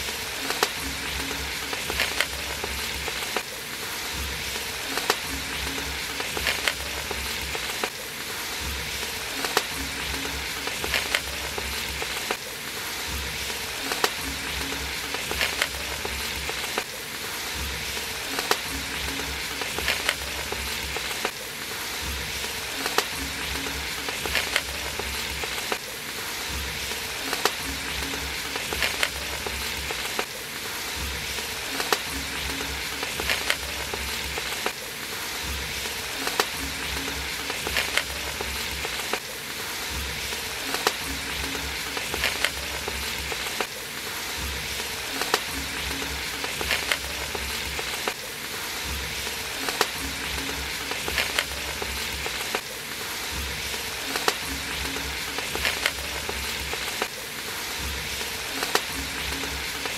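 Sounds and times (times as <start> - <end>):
food sizzling in a pot: 0.0 - 59.9
soft rhythmic beat: 0.0 - 59.9.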